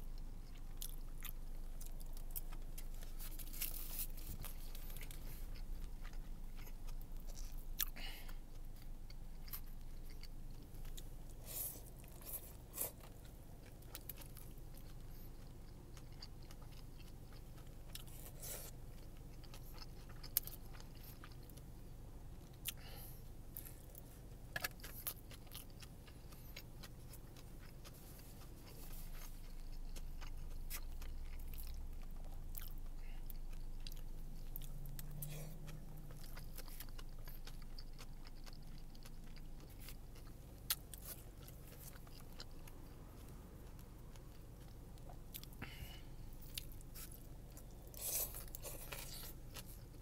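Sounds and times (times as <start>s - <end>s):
low steady hum: 0.0s - 50.0s
person chewing: 0.1s - 50.0s.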